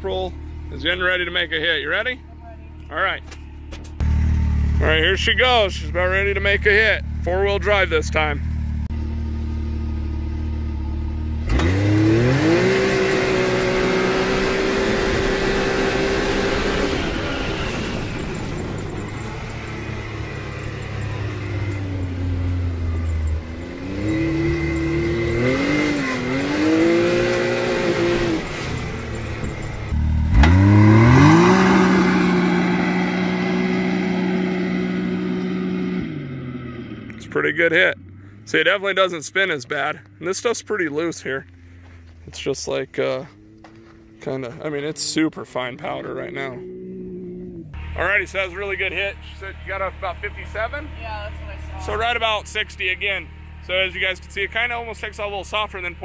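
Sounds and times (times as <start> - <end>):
engine revving at full throttle: 4.0 - 40.6, 45.6 - 56.0.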